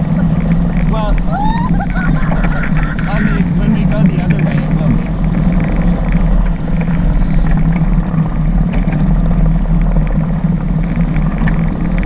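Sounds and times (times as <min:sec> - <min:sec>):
water rushing past boat: 0:00.0 - 0:12.0
wind buffeting microphone: 0:00.0 - 0:12.0.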